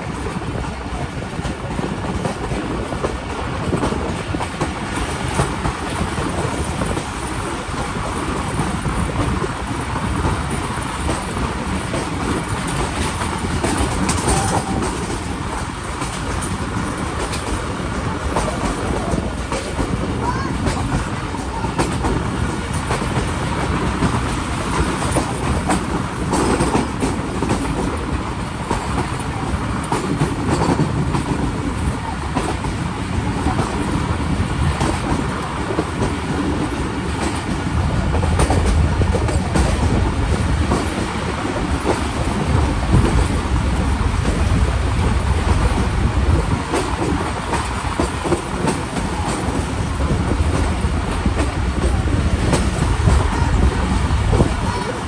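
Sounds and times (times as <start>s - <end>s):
train running rumble: 0.0s - 55.0s
train wheels clicking over rail joints: 0.1s - 55.0s.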